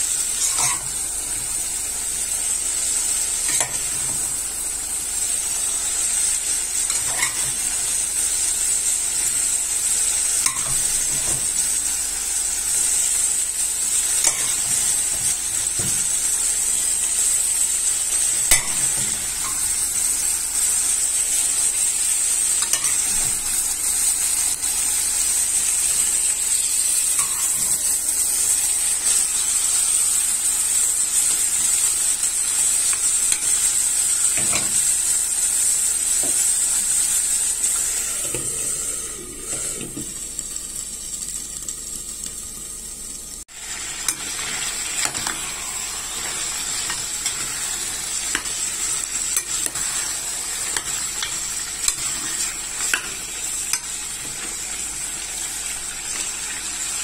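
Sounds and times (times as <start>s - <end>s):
meat and sauce sizzling: 0.0s - 57.0s.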